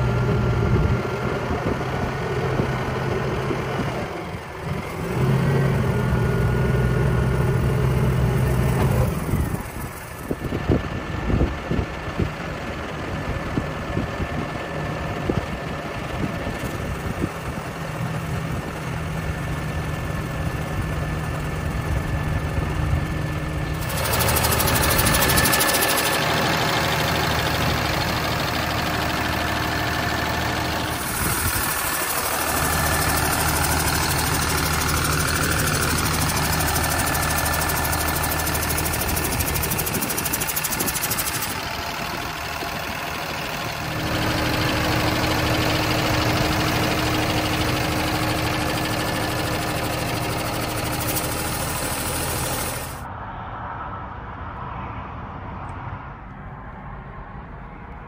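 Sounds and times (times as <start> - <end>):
diesel engine idling: 0.0 - 53.1.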